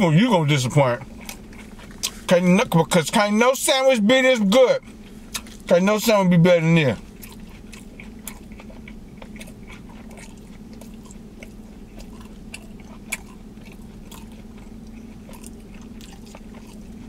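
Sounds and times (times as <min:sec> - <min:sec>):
steady low hum: 0:00.0 - 0:17.0
person chewing with wet smacks: 0:00.7 - 0:03.0, 0:04.5 - 0:17.0.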